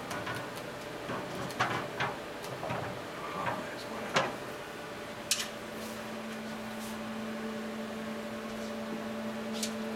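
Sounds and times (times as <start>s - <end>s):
steady electrical hum: 0.0s - 9.9s.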